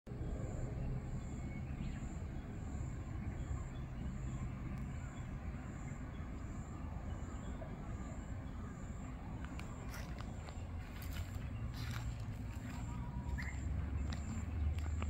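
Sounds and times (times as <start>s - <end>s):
low background rumble: 0.1s - 15.0s.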